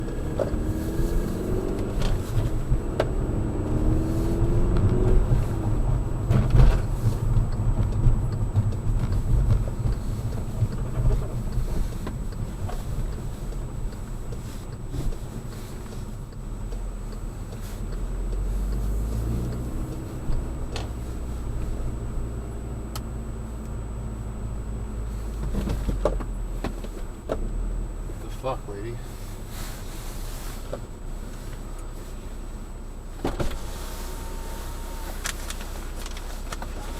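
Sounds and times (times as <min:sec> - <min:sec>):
car engine accelerating: 0:00.0 - 0:36.9
road rumble: 0:00.0 - 0:36.9.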